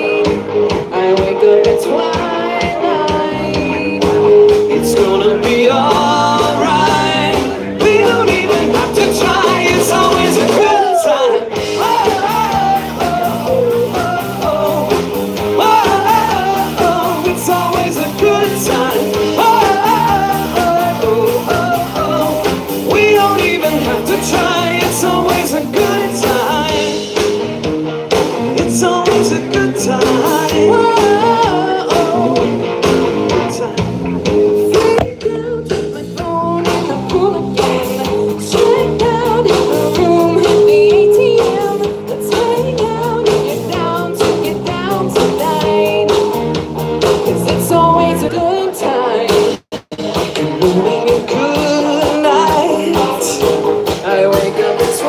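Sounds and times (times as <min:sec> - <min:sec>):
live rock band: 0:00.0 - 0:55.0.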